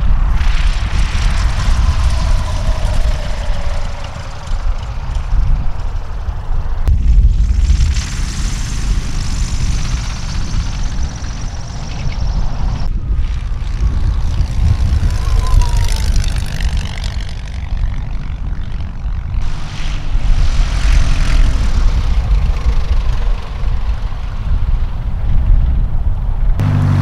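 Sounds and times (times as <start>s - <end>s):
propeller airplane engines droning: 0.0s - 27.0s.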